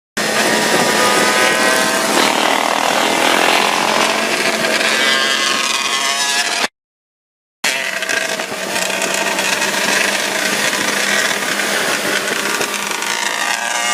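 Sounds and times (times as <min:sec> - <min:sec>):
dirt bike engine revving high: 0:00.2 - 0:06.7, 0:07.6 - 0:13.9.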